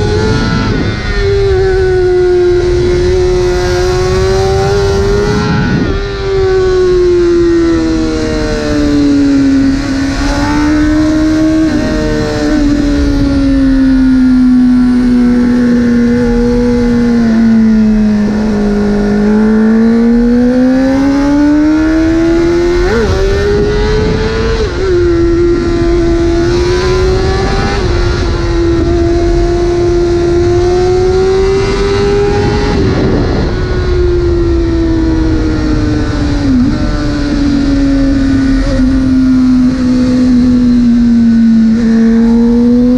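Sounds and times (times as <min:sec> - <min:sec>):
motorcycle engine at high revs: 0:00.0 - 0:42.9.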